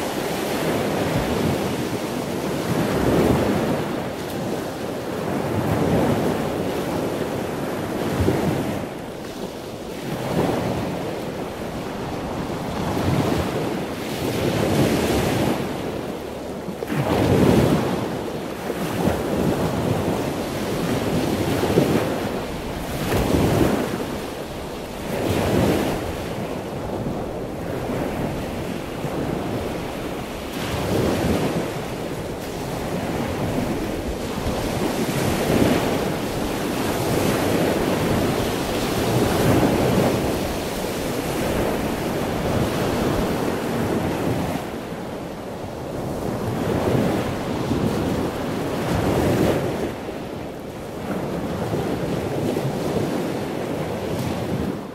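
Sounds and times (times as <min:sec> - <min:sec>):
waves breaking: 0:00.0 - 0:54.9.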